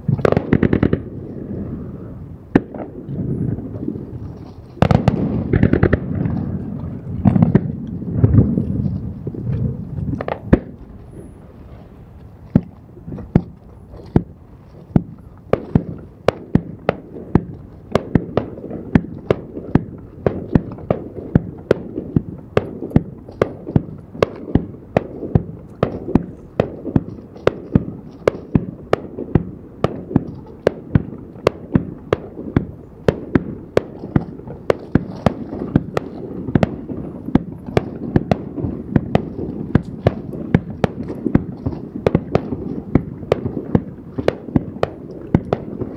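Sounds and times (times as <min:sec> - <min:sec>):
continuous low rumble: 0:00.0 - 0:45.9
firework shells bursting: 0:02.5 - 0:45.9.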